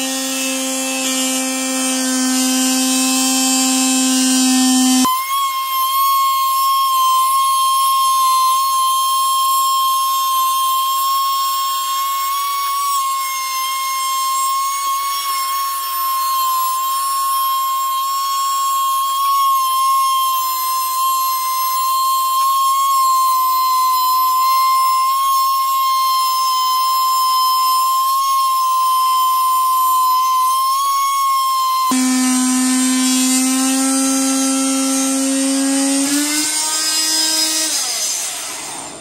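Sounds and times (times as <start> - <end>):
electric cutting tool whining: 0.0 - 39.0.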